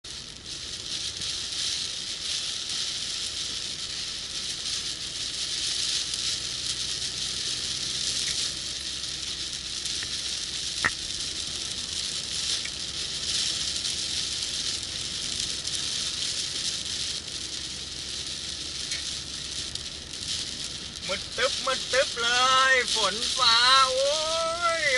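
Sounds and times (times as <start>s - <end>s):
heavy rain on a car: 0.0s - 24.9s.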